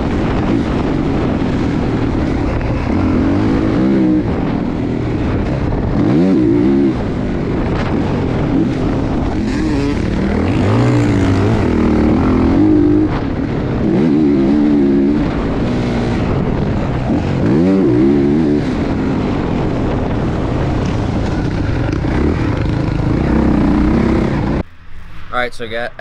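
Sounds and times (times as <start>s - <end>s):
dirt bike engine revving: 0.0s - 25.2s.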